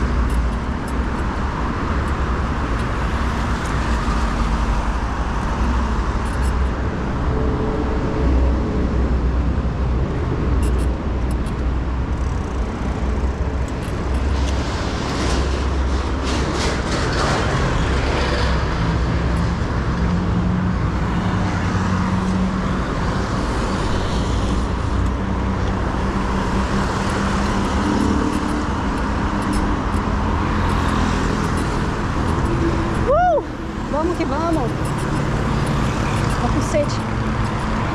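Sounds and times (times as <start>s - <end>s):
car and bus engines running: 0.0s - 37.9s
heavy traffic rumble: 0.0s - 37.9s.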